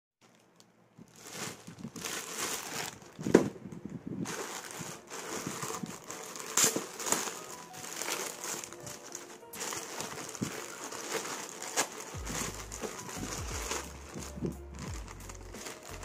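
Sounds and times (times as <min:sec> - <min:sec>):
plastic bag crinkling: 0:00.2 - 0:16.0.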